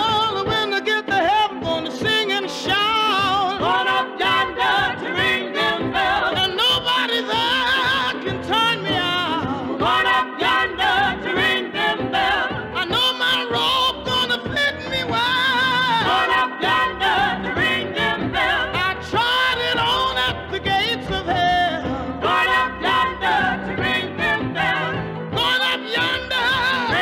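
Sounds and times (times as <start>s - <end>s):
women's vocal group singing gospel: 2.5s - 27.0s.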